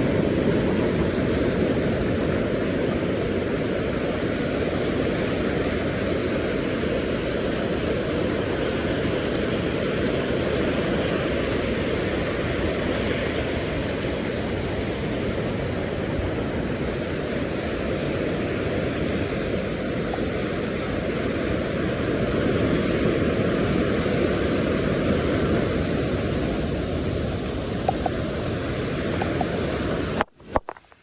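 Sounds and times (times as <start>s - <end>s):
surf on beach: 0.0s - 31.0s
wind: 0.0s - 31.0s.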